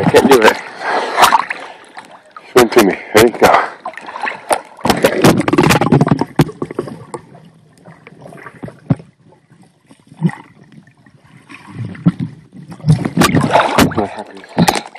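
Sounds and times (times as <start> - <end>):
muffled water moving underwater: 0.0 - 14.9.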